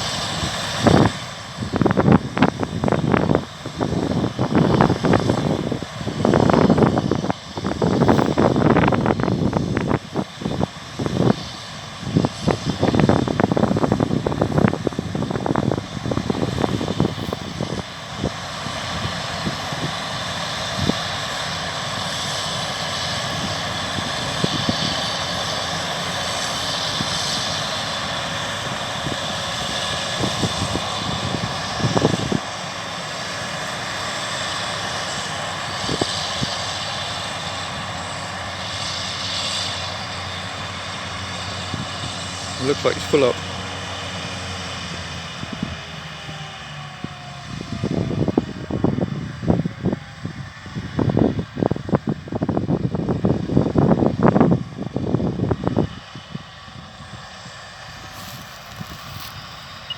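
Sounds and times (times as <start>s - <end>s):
combine harvester drone: 0.0s - 59.9s
wind buffeting microphone: 0.0s - 59.9s.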